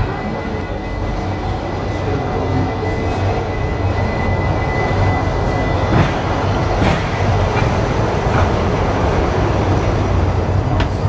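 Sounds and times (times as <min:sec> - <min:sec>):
tramcar rumbling on rails: 0:00.0 - 0:11.0.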